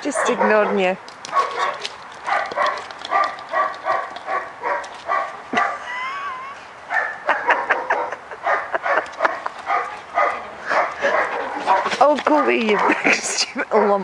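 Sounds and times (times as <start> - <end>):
dog barking: 0.1 - 5.8, 6.9 - 14.0.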